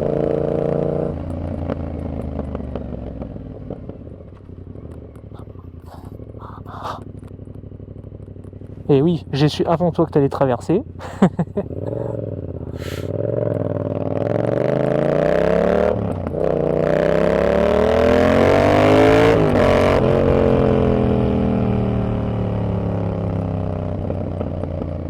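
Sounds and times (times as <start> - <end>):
motorcycle engine accelerating hard: 0.0 - 25.0.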